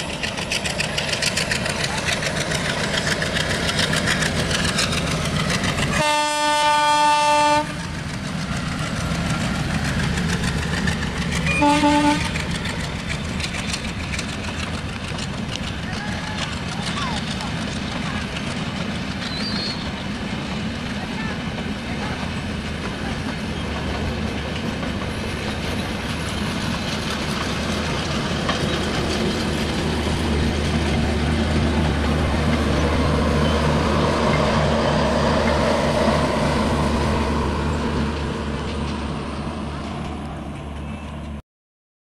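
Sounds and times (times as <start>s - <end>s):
train wheels rumbling on rails: 0.0s - 41.4s.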